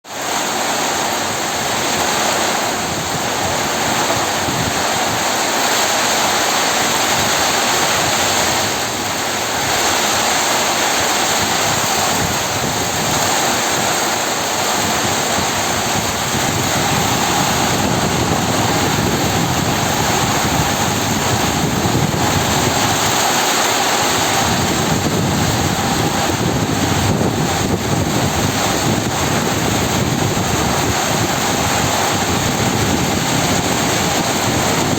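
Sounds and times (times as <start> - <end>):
heavy rain pouring in wind: 0.0 - 34.9.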